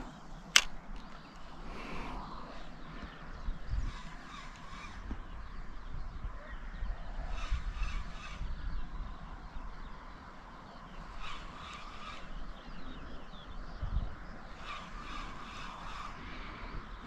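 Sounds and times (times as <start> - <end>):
faint birdsong: 0.0 - 17.0
wind rumbling on microphone: 0.0 - 17.0.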